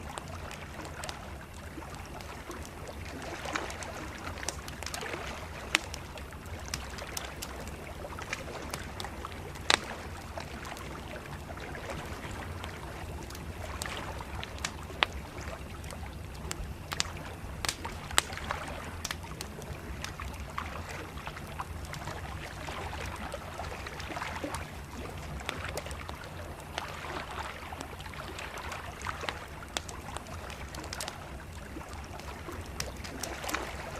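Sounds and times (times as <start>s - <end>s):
campfire crackling and popping: 0.0s - 33.9s
river water lapping at bank: 0.0s - 33.9s.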